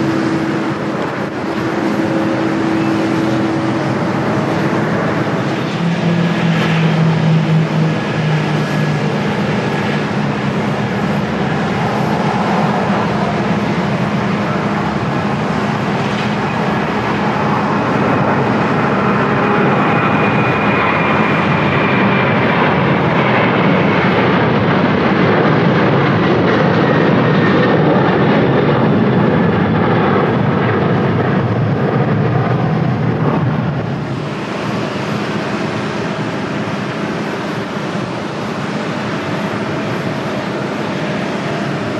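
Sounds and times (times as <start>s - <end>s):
high engine whine: 0.0s - 41.9s
jet engines roaring: 0.0s - 41.9s.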